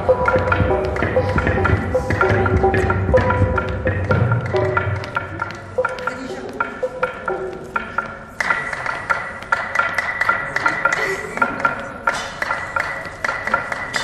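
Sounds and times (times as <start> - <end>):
hand percussion quick beat: 0.0 - 14.0.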